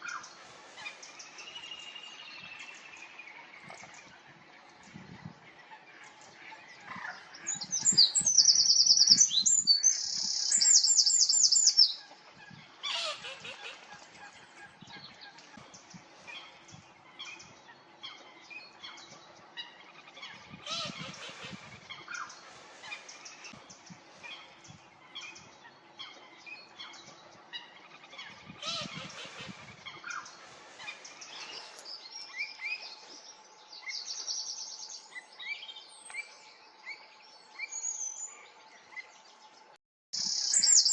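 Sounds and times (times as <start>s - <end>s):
songbirds singing and trilling: 0.0s - 40.9s.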